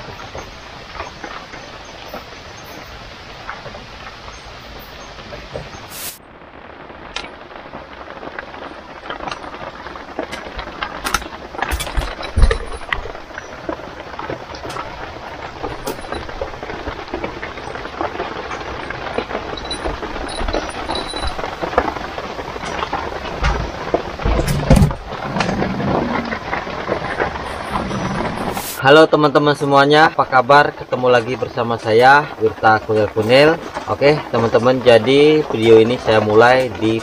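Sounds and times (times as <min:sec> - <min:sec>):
drizzling rain: 0:00.0 - 0:37.0.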